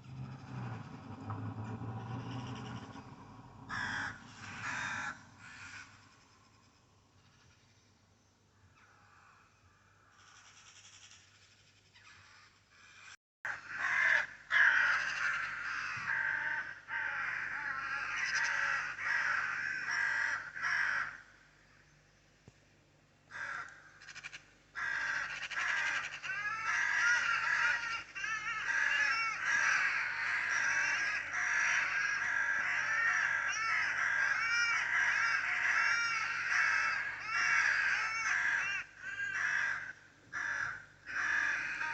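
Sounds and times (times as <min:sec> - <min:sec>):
birds cawing and chattering: 0:00.0 - 0:22.0, 0:23.3 - 0:41.9.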